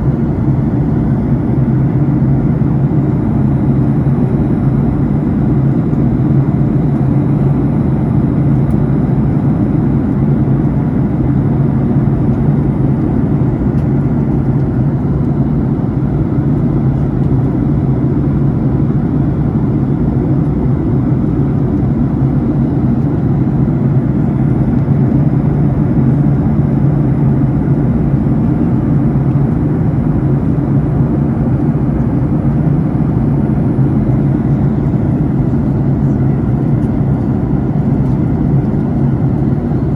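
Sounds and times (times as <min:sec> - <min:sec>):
jet airliner cabin drone: 0:00.0 - 0:39.9.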